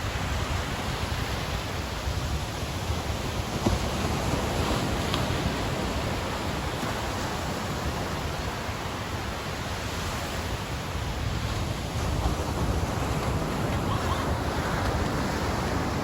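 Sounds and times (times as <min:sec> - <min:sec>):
low wind rumble: 0:00.0 - 0:16.0
waves washing on beach: 0:00.0 - 0:16.0.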